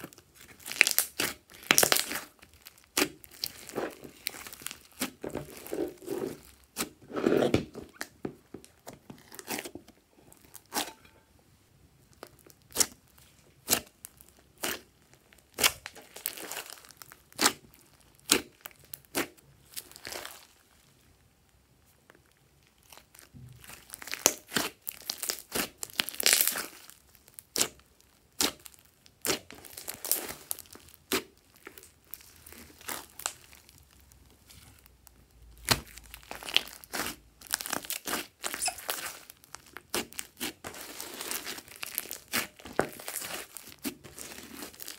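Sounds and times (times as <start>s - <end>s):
slime popping and crackling: 0.0s - 9.7s, 12.1s - 20.6s, 22.7s - 44.9s.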